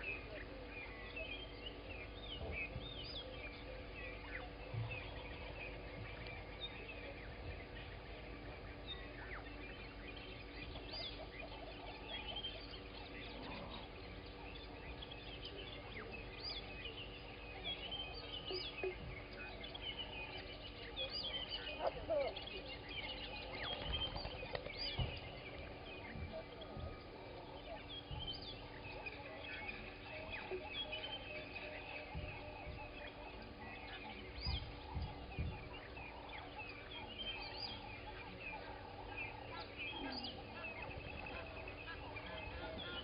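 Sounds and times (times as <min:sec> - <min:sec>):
birds chirping and whistling: 0:00.0 - 0:43.0
lower bird calls: 0:00.0 - 0:43.0
steady low hum: 0:00.0 - 0:43.0.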